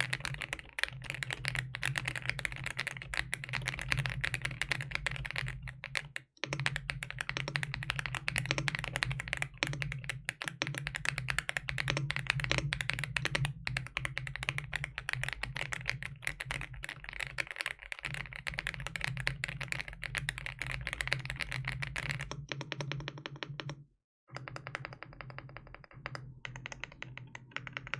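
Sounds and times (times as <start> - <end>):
mechanical keyboard typing: 0.0 - 27.9.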